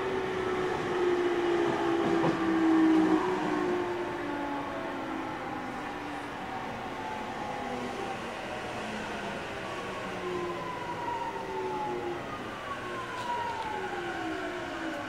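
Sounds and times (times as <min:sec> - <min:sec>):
train inverter whine: 0:00.0 - 0:15.0
wheels rumbling on rail: 0:00.0 - 0:15.0.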